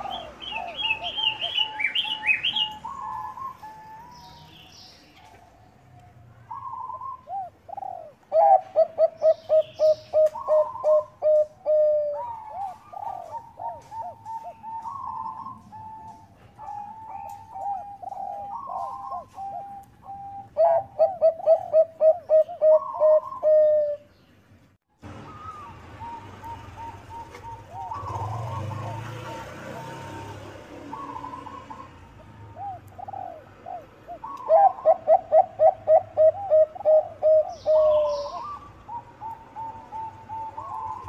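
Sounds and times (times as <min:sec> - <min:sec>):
dove cooing: 0:00.0 - 0:05.8, 0:06.4 - 0:24.1, 0:25.2 - 0:41.0.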